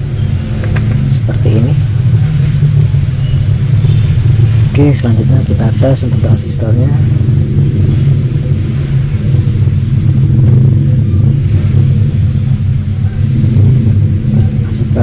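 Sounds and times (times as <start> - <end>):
steady low rumble with hum: 0.0 - 15.0.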